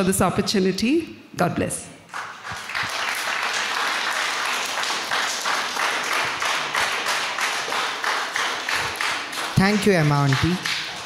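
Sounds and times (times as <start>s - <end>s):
audience applauding: 2.1s - 11.0s.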